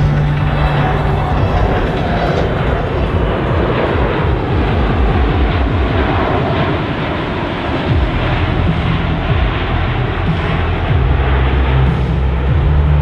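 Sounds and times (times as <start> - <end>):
jet passing low overhead: 0.0 - 13.0.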